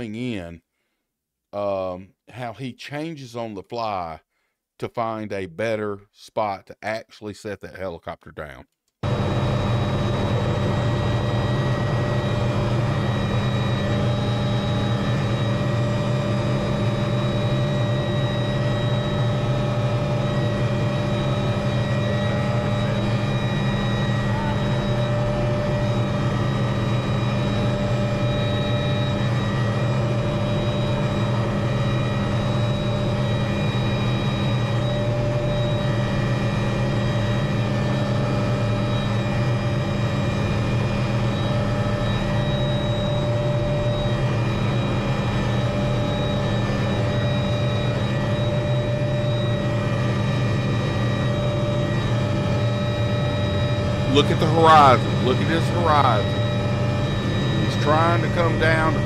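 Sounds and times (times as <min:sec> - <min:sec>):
helicopter drone: 0:09.0 - 0:59.0.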